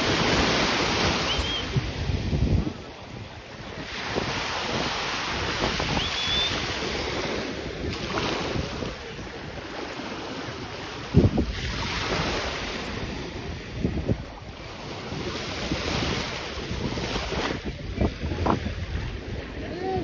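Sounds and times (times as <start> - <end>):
small waves on sandy shore: 0.0 - 20.0
wind buffeting microphone: 0.0 - 20.0.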